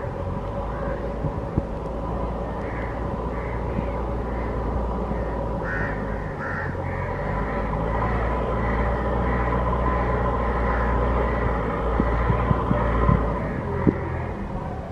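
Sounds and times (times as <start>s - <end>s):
train rumbling: 0.0s - 14.9s
crow cawing: 0.7s - 1.1s, 2.4s - 14.4s
bird calls: 2.3s - 14.5s.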